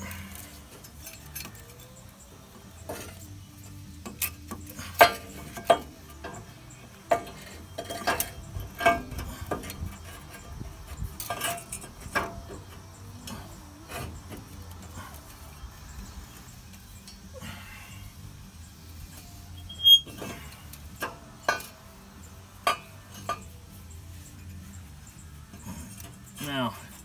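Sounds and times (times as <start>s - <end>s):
metal manifold clanking and scraping: 0.0s - 17.8s, 19.0s - 27.0s.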